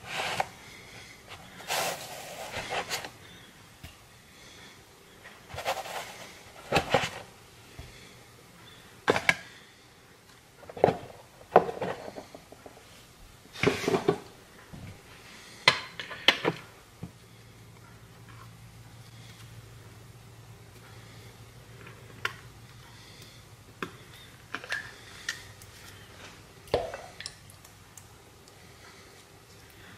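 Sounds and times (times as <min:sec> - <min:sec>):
faint low hum: 0:00.0 - 0:29.9.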